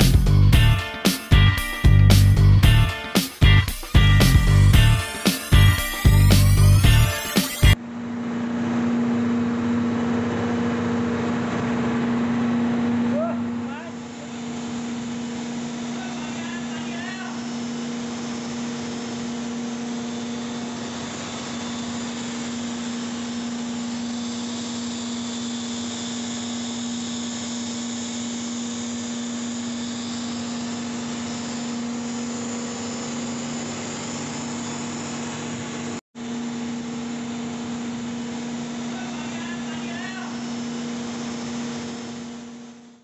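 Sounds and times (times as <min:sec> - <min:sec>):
electric drill running: 0:00.0 - 0:07.8, 0:13.6 - 0:43.0.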